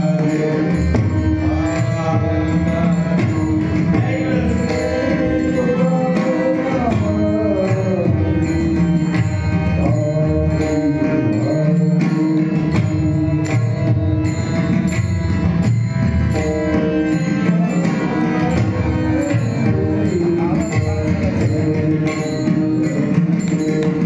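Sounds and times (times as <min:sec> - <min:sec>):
man singing: 0:00.0 - 0:13.9, 0:16.2 - 0:24.0.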